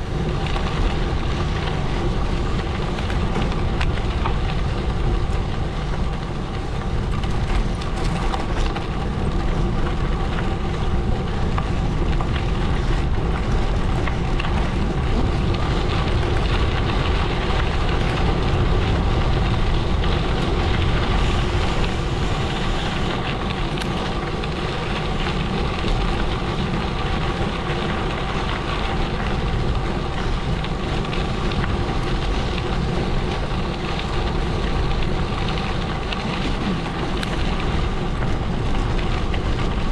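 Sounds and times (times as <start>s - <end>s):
bike tyres rolling on gravel: 0.0s - 39.9s
wind noise on microphone: 0.0s - 39.9s.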